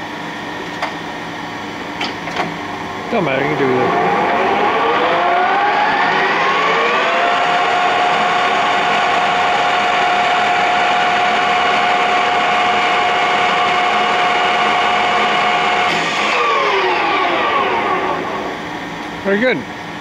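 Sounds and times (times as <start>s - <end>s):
lathe gears whining: 2.8s - 18.9s.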